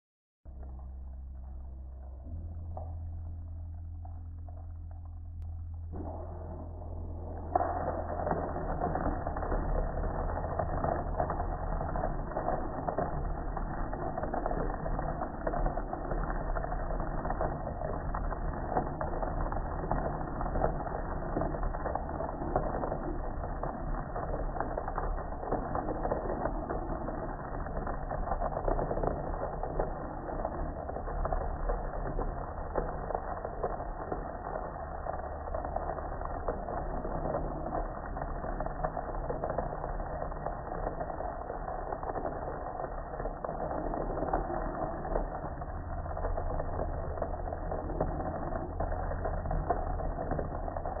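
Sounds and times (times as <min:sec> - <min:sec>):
water spraying on metal grill: 0:00.5 - 0:51.0.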